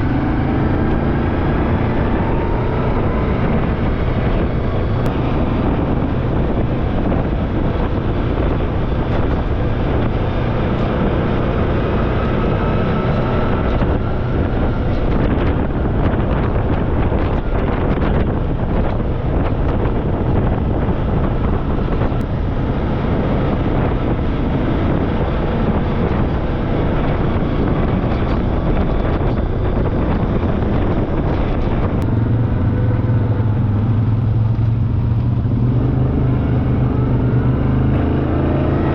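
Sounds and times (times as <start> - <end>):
off-road vehicle engine: 0.0 - 38.9
wind rushing over microphone: 0.0 - 38.9.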